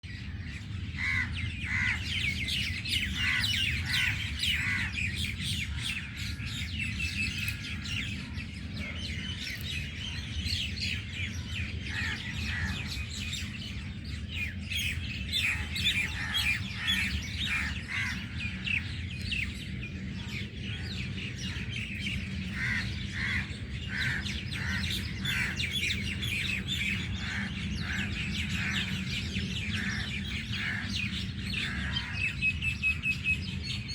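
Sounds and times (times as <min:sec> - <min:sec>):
birds chirping and calling: 0:00.0 - 0:33.9
steady low hum: 0:00.0 - 0:33.9.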